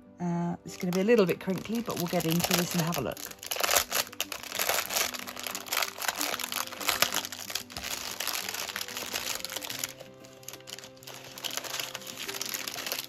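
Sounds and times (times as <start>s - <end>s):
background music: 0.0s - 13.0s
plastic packaging crinkling: 0.7s - 13.0s.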